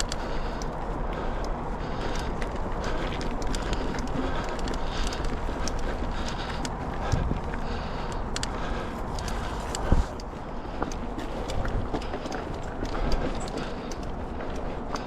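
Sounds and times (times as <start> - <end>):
bike clicks and rattles: 0.0 - 15.0
bike tyres rumbling: 0.0 - 15.0
wind: 0.0 - 15.0.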